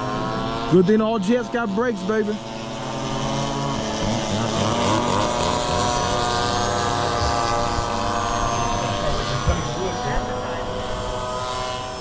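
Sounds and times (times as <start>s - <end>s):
model aircraft engine running: 0.0s - 12.0s.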